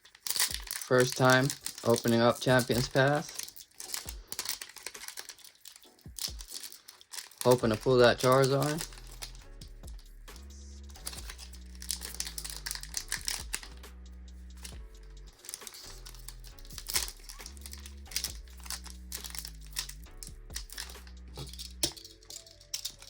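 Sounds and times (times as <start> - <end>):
foil wrapper crinkling: 0.0 - 10.1, 10.9 - 13.8, 14.5 - 23.0
background music low notes: 0.0 - 23.0.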